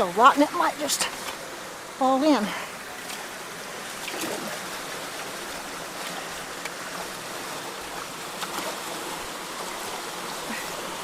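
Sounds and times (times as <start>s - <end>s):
flowing creek water: 0.0s - 11.0s.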